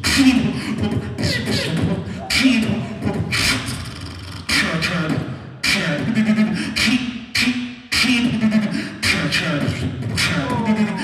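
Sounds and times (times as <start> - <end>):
beatboxing snare hits: 0.0 - 10.6.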